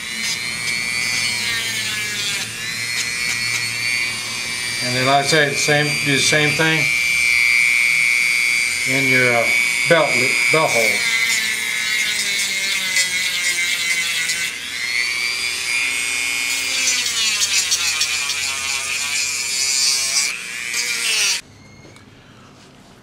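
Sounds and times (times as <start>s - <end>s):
rotary tool grinding leather: 0.0s - 21.4s.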